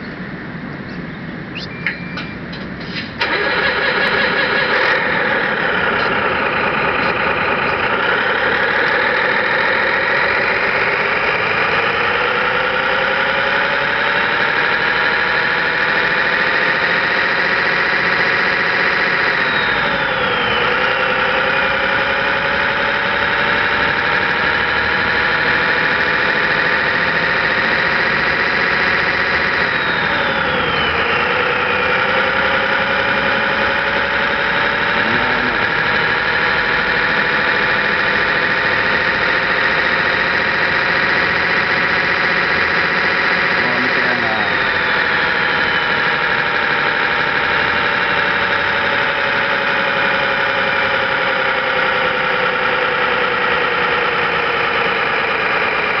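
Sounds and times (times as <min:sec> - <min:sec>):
simulated diesel truck engine: 0:00.0 - 0:56.0.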